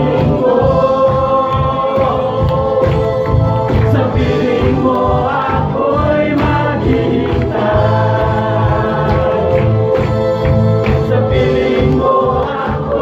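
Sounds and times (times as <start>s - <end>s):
amplified backing music with beat: 0.0s - 13.0s
group singing into microphones: 0.0s - 13.0s.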